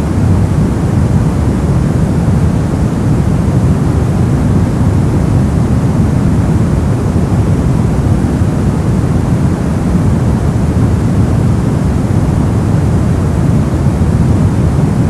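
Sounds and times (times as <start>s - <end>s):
brown noise: 0.0s - 15.0s.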